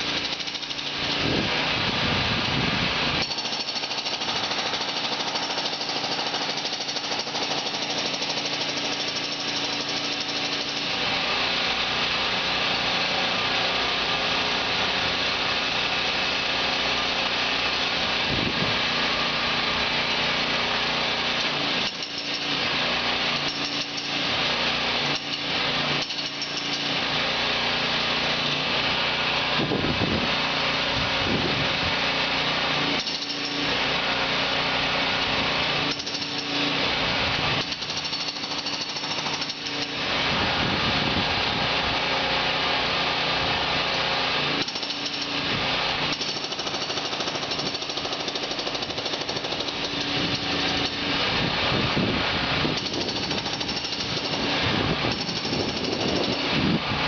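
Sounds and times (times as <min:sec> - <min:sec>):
jackhammer hammering: 0:00.0 - 0:01.7, 0:03.0 - 0:13.1, 0:14.0 - 0:31.4, 0:32.0 - 0:40.5, 0:42.0 - 0:57.0.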